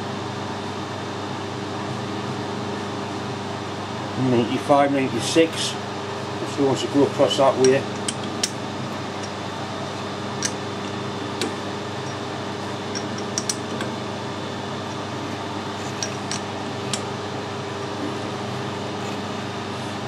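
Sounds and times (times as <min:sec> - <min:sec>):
workshop equipment humming: 0:00.0 - 0:20.0.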